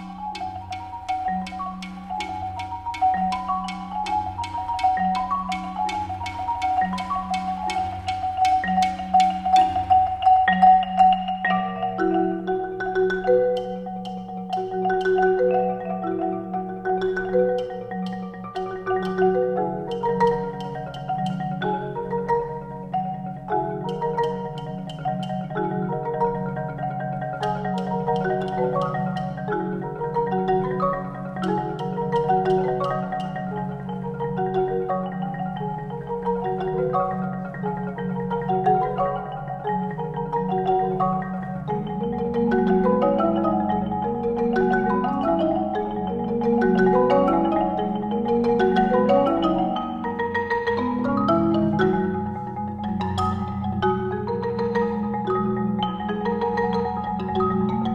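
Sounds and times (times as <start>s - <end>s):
marimbas playing: 0.0s - 57.9s.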